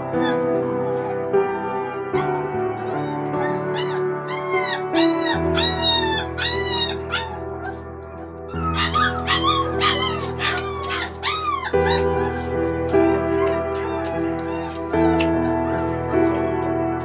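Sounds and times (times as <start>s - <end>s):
background music with held chords: 0.0s - 17.0s
puppies whining: 0.0s - 17.0s.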